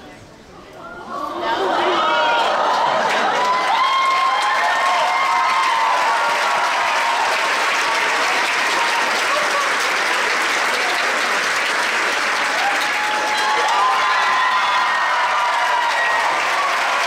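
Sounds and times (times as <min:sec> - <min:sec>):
audience applauding: 0:02.0 - 0:17.0.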